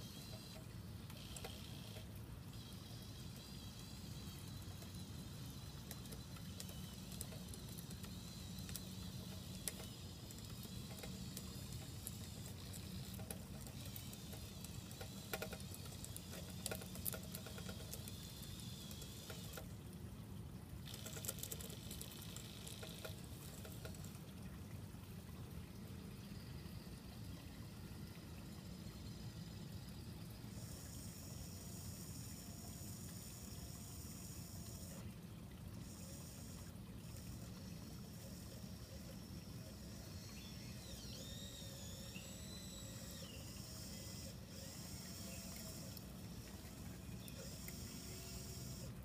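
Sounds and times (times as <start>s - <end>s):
faint electric motor whine: 0.0s - 49.0s.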